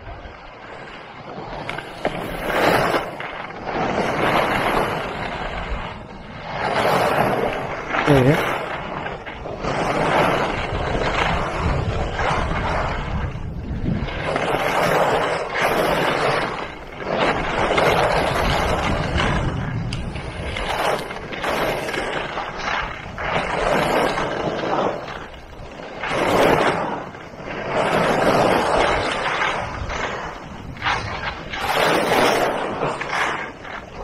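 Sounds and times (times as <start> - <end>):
skis scraping over snow: 0.0 - 34.0
wind on microphone: 0.0 - 34.0.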